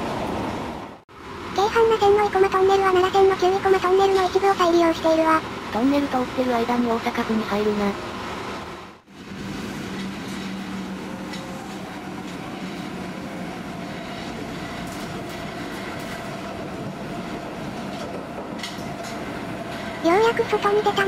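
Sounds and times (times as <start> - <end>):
rumble of wheels on rail: 0.0 - 21.0.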